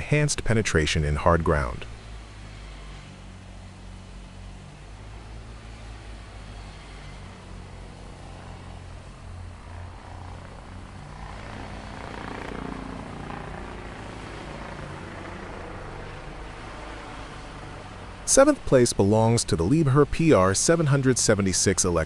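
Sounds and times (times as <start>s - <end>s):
heavy machinery engine humming: 0.0s - 22.0s.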